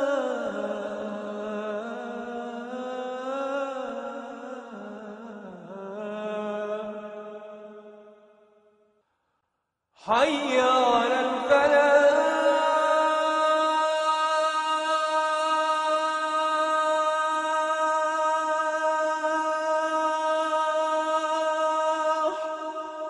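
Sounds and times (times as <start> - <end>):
man chanting call to prayer: 0.0 - 7.7, 10.0 - 23.0.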